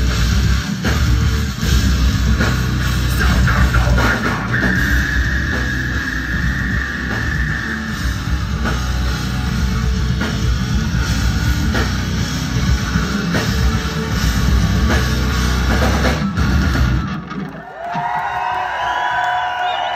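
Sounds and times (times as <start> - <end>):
heavy rock band playing: 0.0 - 18.2
pounding drum kit: 0.0 - 18.8.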